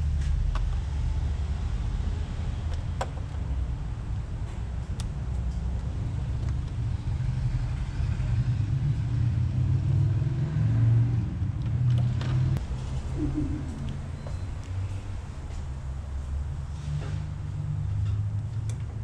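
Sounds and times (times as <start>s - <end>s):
continuous low rumble: 0.0s - 9.3s, 11.2s - 19.0s.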